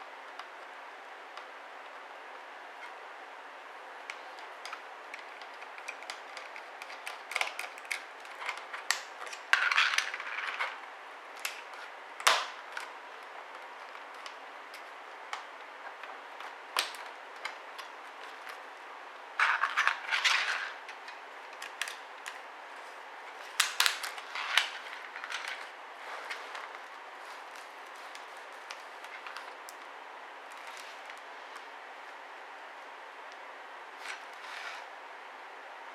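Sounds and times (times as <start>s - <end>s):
steady background hiss: 0.0s - 35.9s.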